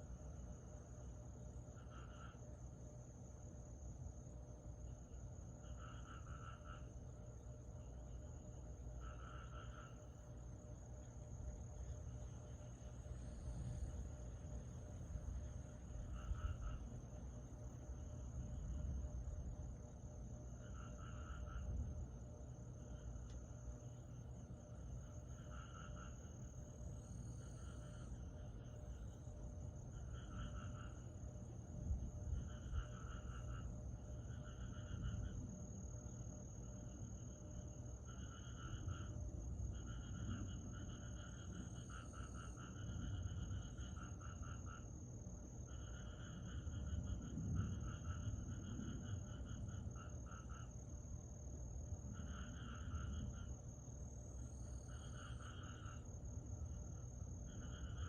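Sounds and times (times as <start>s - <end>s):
faint low rumble: 0.0s - 58.0s
insects pulsed chirping: 0.0s - 58.0s
insects high-pitched trill: 4.8s - 58.0s.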